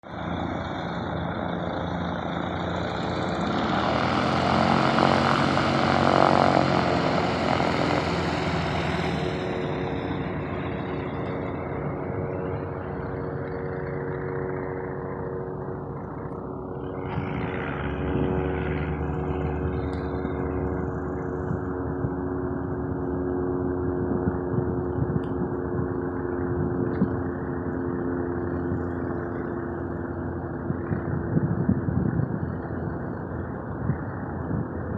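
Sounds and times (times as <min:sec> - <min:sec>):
propeller plane flying past: 0:00.0 - 0:34.9.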